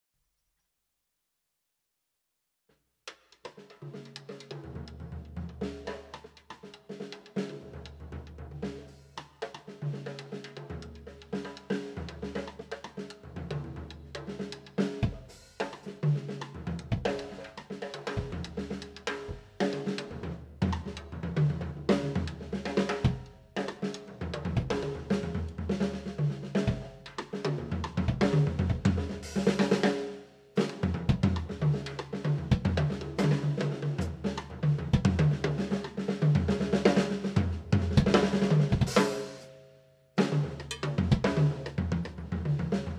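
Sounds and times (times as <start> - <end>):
drum kit groove: 3.1 - 39.5, 40.2 - 42.9.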